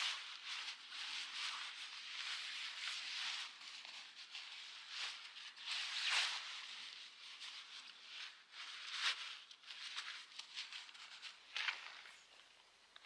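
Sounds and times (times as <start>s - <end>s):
outdoor rustling: 0.0s - 13.0s
soft patter: 0.0s - 13.0s.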